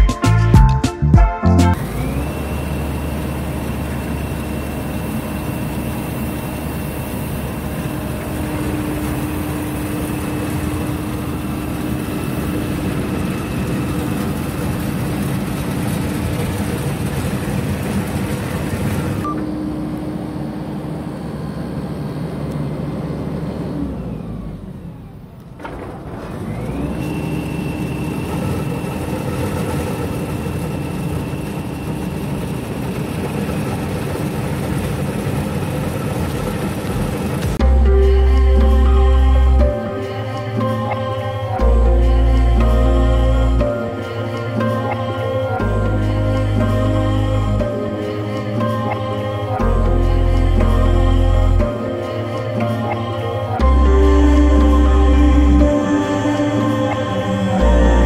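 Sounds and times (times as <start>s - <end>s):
heavy construction machinery running: 1.6s - 58.0s.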